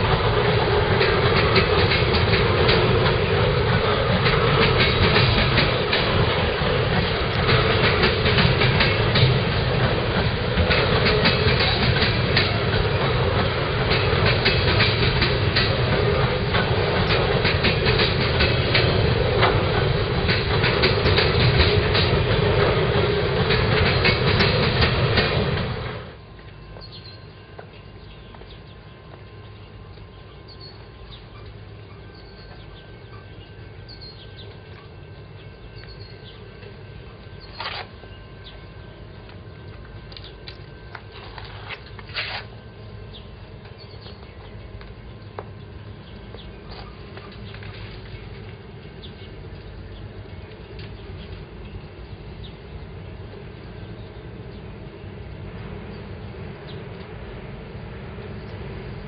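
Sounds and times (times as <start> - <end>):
freight train cars rolling past: 0.0 - 59.0.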